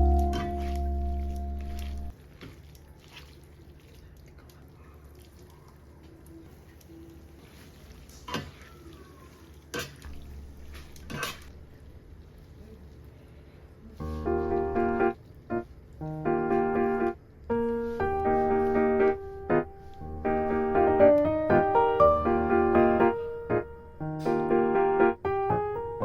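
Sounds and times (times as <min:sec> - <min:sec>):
faint running water: 0:00.0 - 0:24.2.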